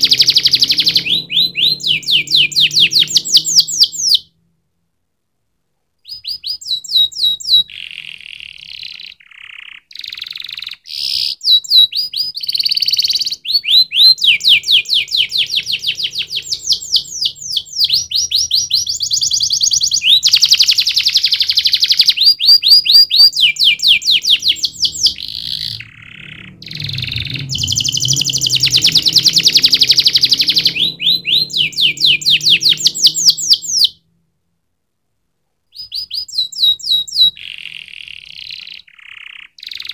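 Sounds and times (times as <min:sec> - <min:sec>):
canary singing fast trills: 0:00.0 - 0:04.3, 0:06.0 - 0:34.0, 0:35.7 - 0:39.9.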